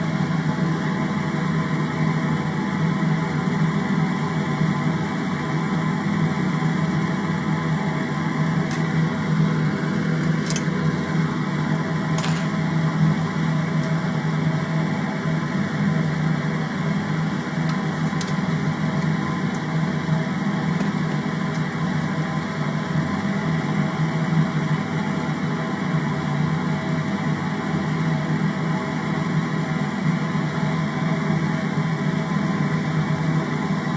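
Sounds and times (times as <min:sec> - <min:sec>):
small fan whirring: 0:00.0 - 0:33.9.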